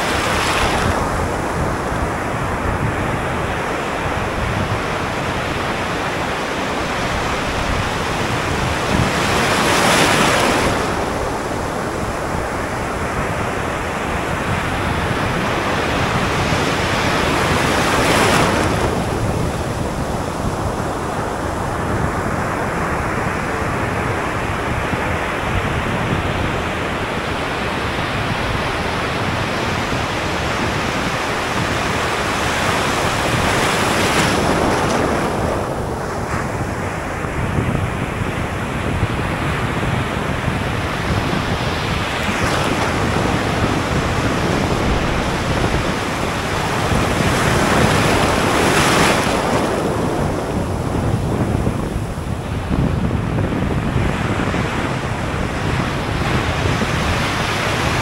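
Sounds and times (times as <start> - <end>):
surf washing over shallows: 0.0 - 58.0.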